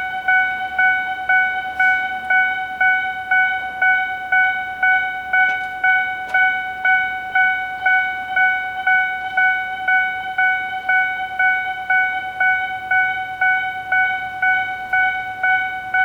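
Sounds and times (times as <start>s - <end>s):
level-crossing alarm bell: 0.0s - 16.0s.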